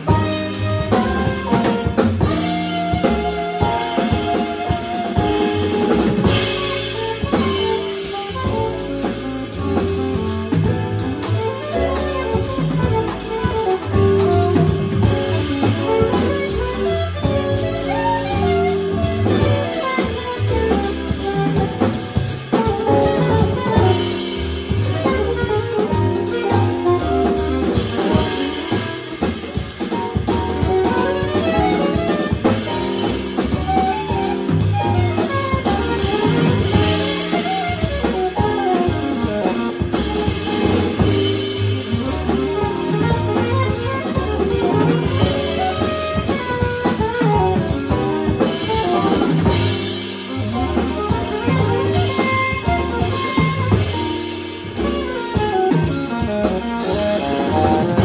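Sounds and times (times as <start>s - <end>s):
drum kit: 0.0s - 58.0s
piano: 0.0s - 58.0s
saxophone melody: 0.0s - 58.0s
upright bass: 0.0s - 58.0s.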